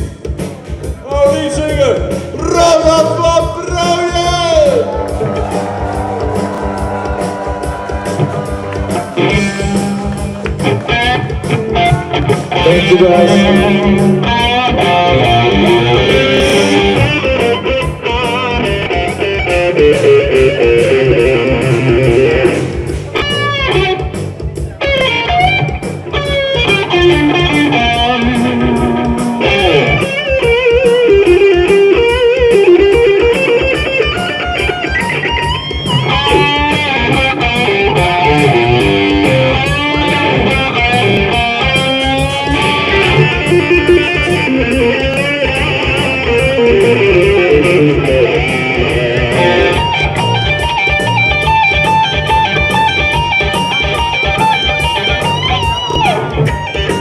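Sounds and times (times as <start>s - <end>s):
bending lead guitar line: 0.0s - 57.0s
rock band playing: 0.0s - 57.0s.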